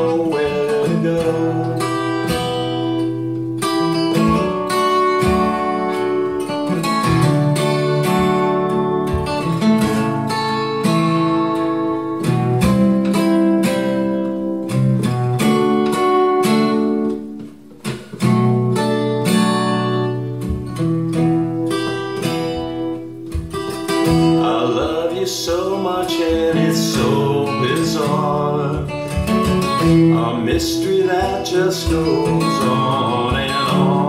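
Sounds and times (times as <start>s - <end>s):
acoustic guitar strumming chords: 0.0s - 34.0s.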